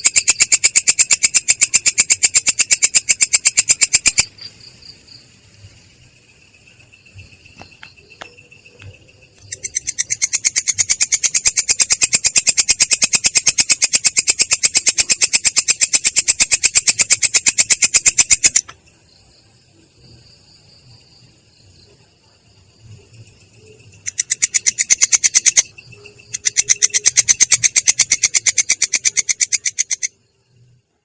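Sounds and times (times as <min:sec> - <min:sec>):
insect stridulating: 0:00.0 - 0:31.0.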